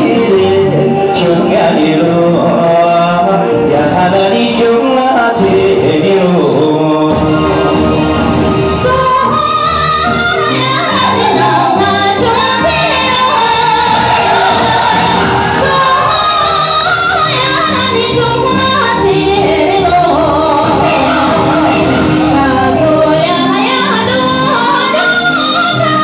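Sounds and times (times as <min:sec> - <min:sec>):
person singing into microphone: 0:00.0 - 0:08.1, 0:08.8 - 0:26.0
backing music: 0:00.0 - 0:26.0.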